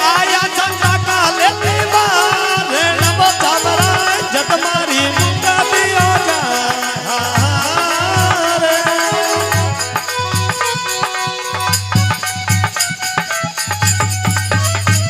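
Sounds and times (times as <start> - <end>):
folk melody instrument: 0.0 - 15.0
jingling hand percussion: 0.0 - 15.0.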